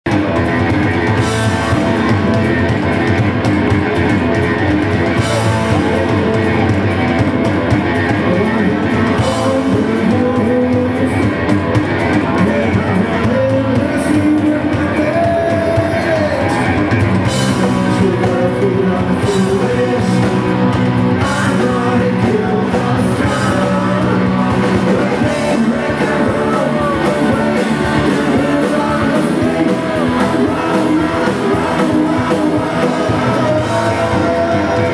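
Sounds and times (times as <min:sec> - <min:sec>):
drum kit: 0:00.1 - 0:34.9
electric guitars: 0:00.1 - 0:34.9
person singing lead vocal: 0:00.1 - 0:34.9.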